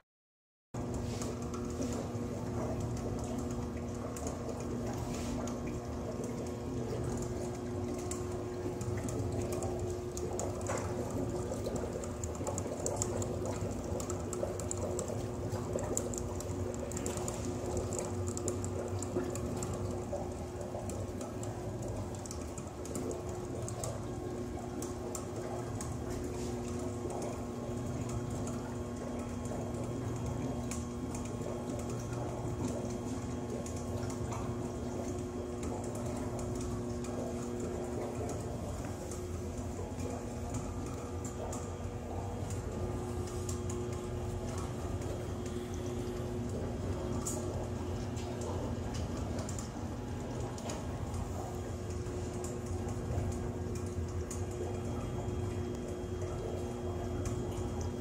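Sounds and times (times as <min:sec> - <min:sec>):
small ticks and clicks: 0:00.8 - 0:58.0
steady machine hum: 0:00.8 - 0:58.0
water bubbling: 0:00.8 - 0:58.0.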